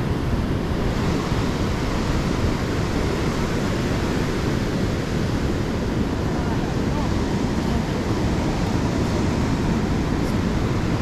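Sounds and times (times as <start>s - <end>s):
ocean surf rushing: 0.0s - 11.0s
wind on microphone: 0.0s - 11.0s.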